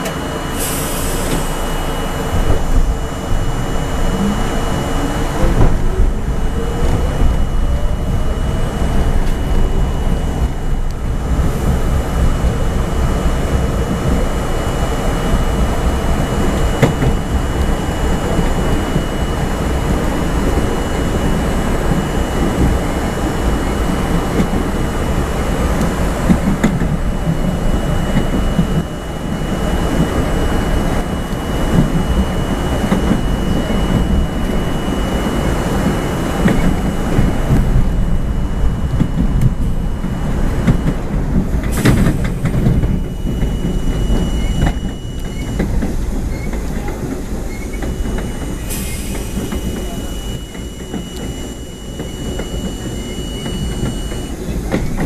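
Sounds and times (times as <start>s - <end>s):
steady high tone: 0.0s - 55.0s
train wheels rumbling on rails: 0.0s - 55.0s.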